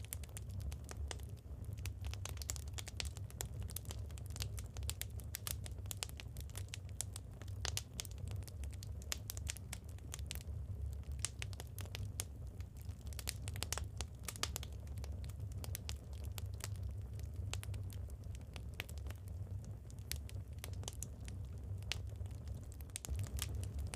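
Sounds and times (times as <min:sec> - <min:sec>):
steady low rumble: 0:00.0 - 0:23.9
wood fire crackling and popping: 0:00.0 - 0:23.9.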